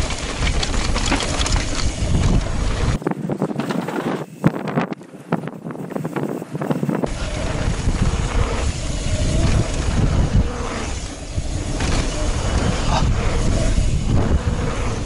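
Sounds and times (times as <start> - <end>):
tyres rolling over dirt: 0.0 - 4.4, 7.0 - 15.0
bike rattling: 0.0 - 15.0
wind on microphone: 0.0 - 15.0.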